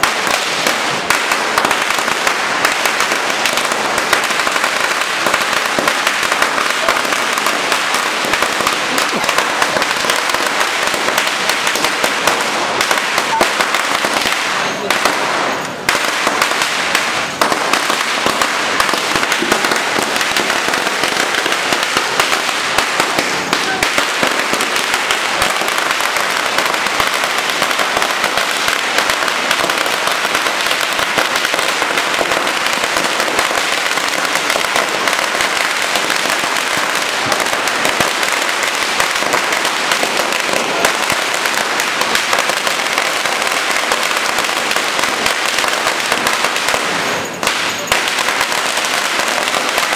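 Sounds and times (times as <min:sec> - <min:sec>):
firecrackers crackling rapidly: 0:00.0 - 0:49.9.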